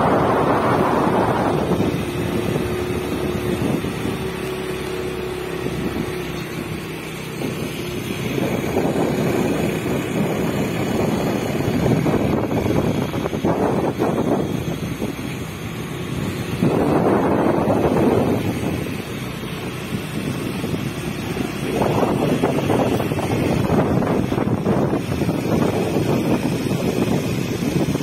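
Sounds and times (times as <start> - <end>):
scooter engine running: 0.0 - 28.0
wind buffeting microphone: 0.0 - 28.0.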